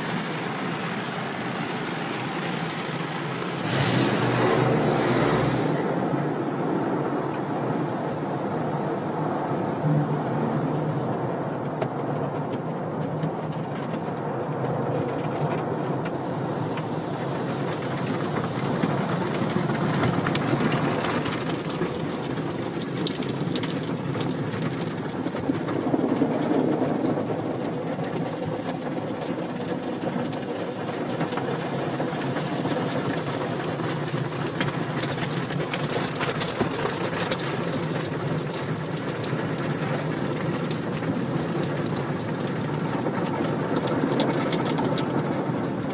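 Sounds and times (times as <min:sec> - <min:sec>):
car wash machinery rumbling: 0:00.0 - 0:45.9
continuous hiss: 0:00.0 - 0:45.9.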